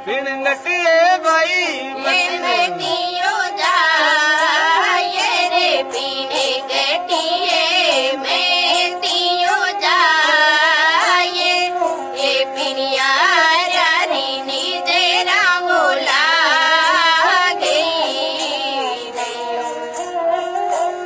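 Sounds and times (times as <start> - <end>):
percussion strokes: 0.7 - 21.0
high voice singing with vibrato: 1.3 - 21.0.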